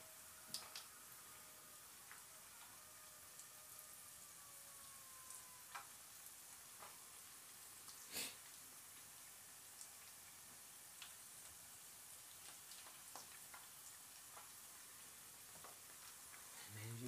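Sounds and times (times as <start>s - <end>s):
food frying in oil: 0.0s - 17.0s
loud crackle of frying oil: 0.0s - 17.0s.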